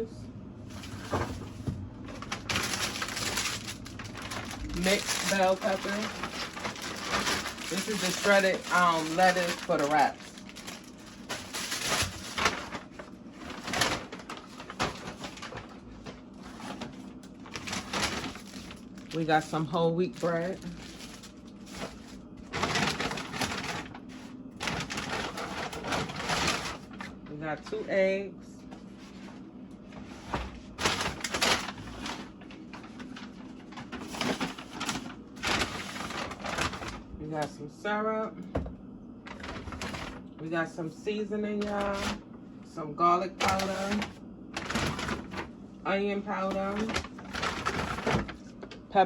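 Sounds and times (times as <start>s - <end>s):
plastic packaging rustling: 0.7s - 27.7s, 29.0s - 37.2s, 39.2s - 40.4s, 41.6s - 42.2s, 43.3s - 45.6s, 46.3s - 49.0s.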